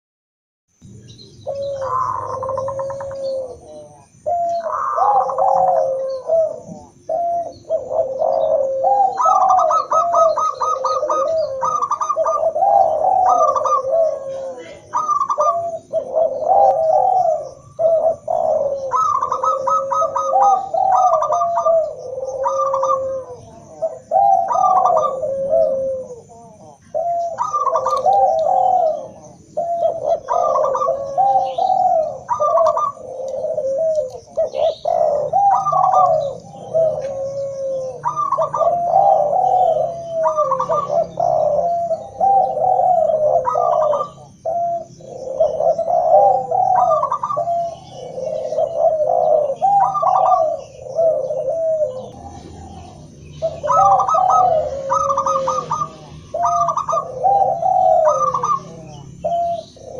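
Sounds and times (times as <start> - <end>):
doves cooing: 0.8 - 59.9.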